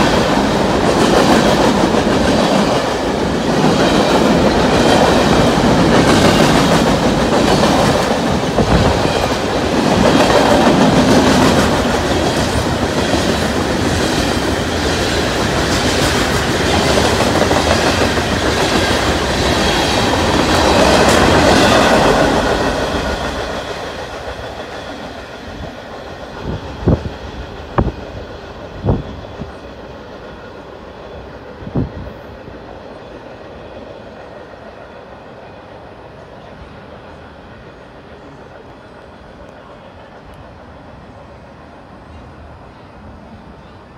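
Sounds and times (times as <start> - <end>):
freight cars rolling on rails: 0.0 - 41.2.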